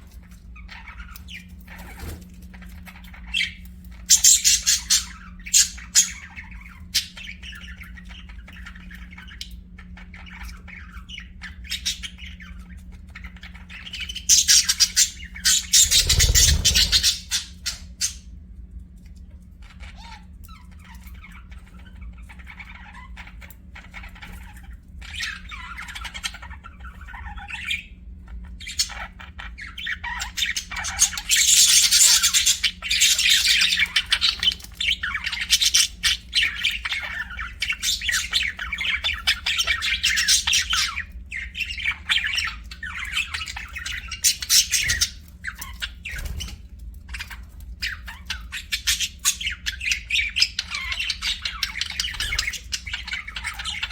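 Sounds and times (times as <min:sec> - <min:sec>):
budgerigars chirping and chattering: 0:00.0 - 0:18.3, 0:19.3 - 0:53.9
steady low hum: 0:00.0 - 0:53.9.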